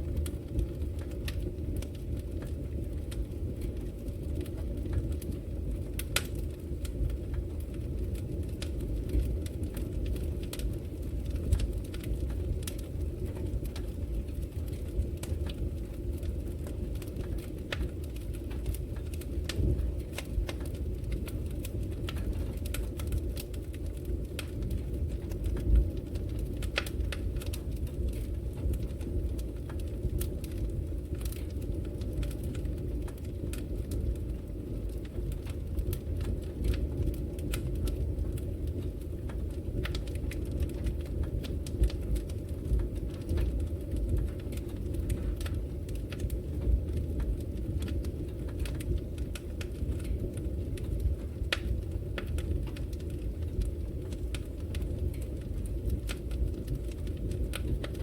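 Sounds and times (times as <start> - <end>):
fire crackles and pops: 0.0 - 58.0
roar of flames: 0.0 - 58.0.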